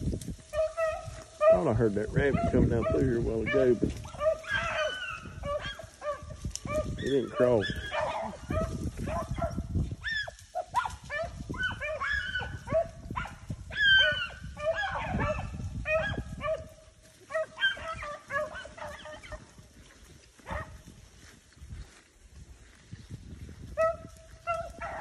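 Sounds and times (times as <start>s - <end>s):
beagles baying: 0.5s - 20.8s, 23.8s - 25.0s.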